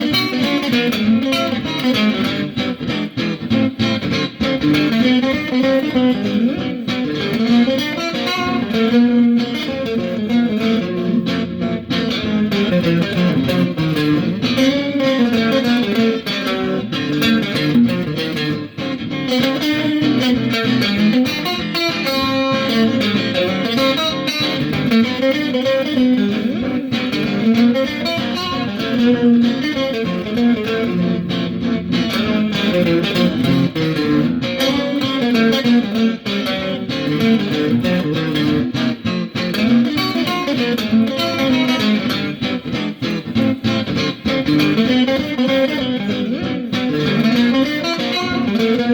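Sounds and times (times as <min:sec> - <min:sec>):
guitar playing plucked notes: 0:00.0 - 0:48.9.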